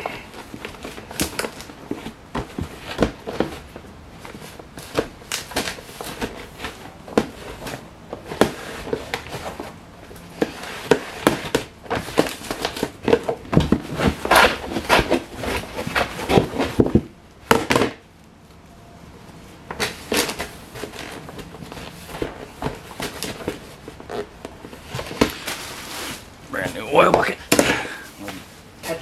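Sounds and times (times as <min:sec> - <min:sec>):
clatter of things being handled: 0:00.0 - 0:18.1, 0:19.6 - 0:29.0.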